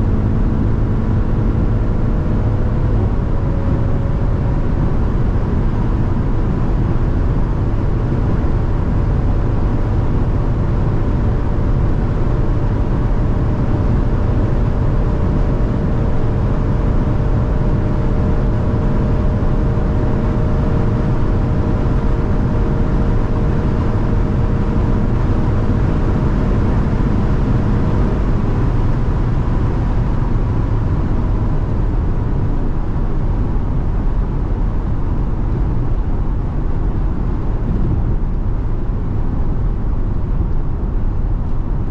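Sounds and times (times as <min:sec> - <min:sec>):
engine drone: 0:00.0 - 0:41.9
road and wind noise: 0:00.0 - 0:41.9.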